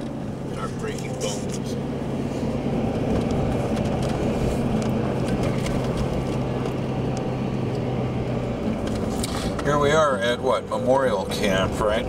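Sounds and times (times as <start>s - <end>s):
car interior engine and tyre hum: 0.0s - 12.0s.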